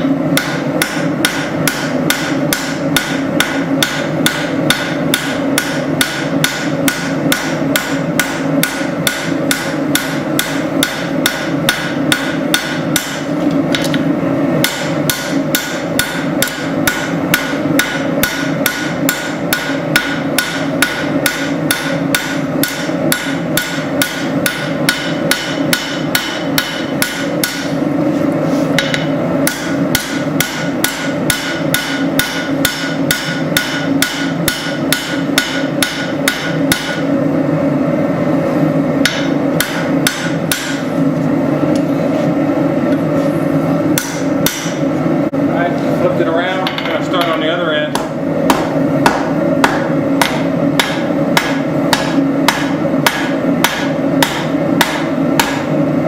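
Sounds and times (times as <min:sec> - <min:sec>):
hammer striking steel on anvil: 0:00.3 - 0:14.0, 0:14.6 - 0:27.8, 0:28.7 - 0:37.2, 0:39.0 - 0:40.9, 0:43.9 - 0:44.8, 0:46.5 - 0:55.7.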